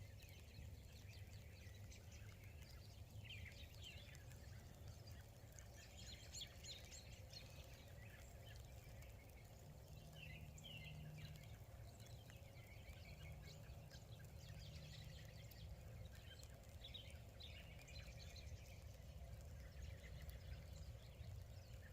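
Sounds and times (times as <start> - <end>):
low outdoor rumble: 0.0 - 21.9.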